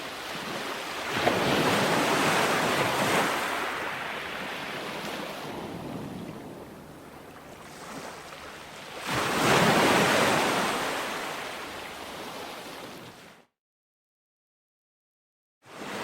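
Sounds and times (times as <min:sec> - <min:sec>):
ocean waves crashing on shore: 0:00.0 - 0:13.4, 0:15.7 - 0:16.0.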